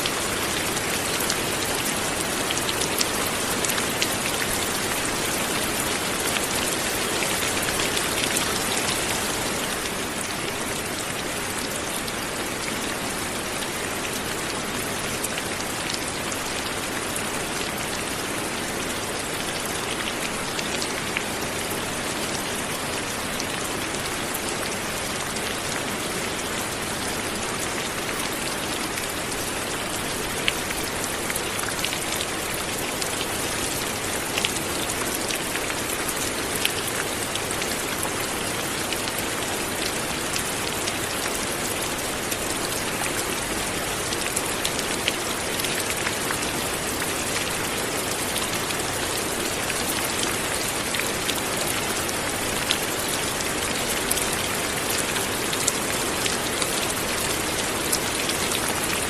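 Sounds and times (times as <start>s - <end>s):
light rain falling: 0.0s - 59.0s
raindrops ticking on a surface: 0.0s - 59.0s.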